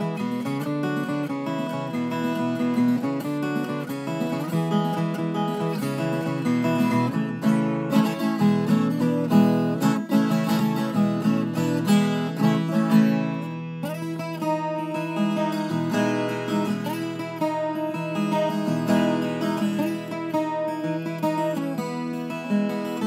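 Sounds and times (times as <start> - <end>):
ten-string guitar plucked and strummed: 0.0 - 23.0.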